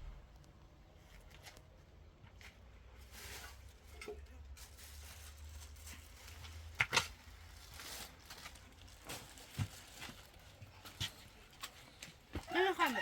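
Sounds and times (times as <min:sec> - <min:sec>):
rustling: 0:02.3 - 0:13.0.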